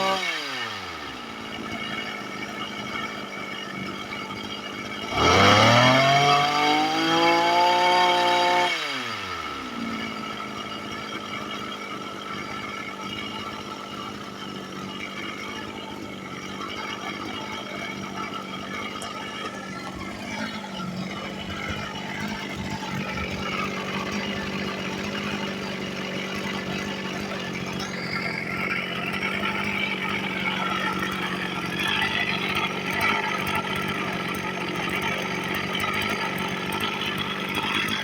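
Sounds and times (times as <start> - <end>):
brush-cutter engine running: 0.0 - 38.0.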